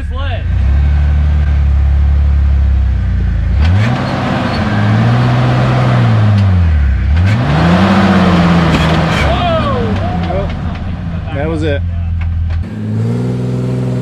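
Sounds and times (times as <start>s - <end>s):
engine idling and revving: 0.0s - 14.0s.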